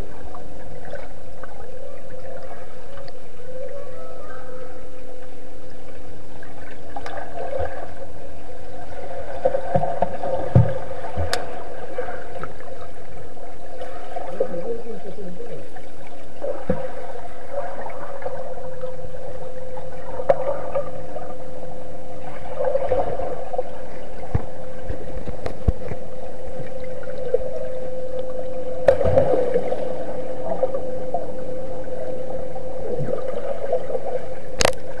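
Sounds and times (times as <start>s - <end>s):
muffled water sloshing: 0.0s - 35.0s
underwater hum: 0.0s - 35.0s.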